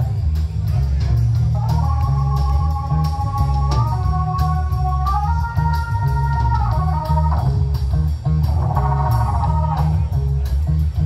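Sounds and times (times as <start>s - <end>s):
bass guitar: 0.0s - 11.0s
drum kit beat: 0.0s - 11.0s
electric guitars: 0.0s - 11.0s.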